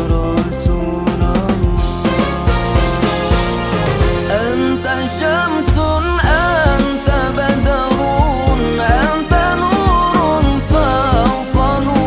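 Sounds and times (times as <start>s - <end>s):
pop music with singing: 0.0s - 12.0s.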